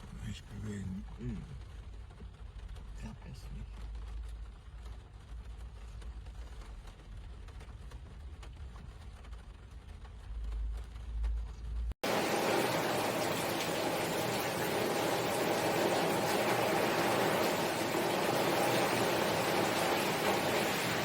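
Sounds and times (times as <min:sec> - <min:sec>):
heavy rain downpour hiss: 0:00.0 - 0:21.0
light rain patter: 0:00.0 - 0:21.0.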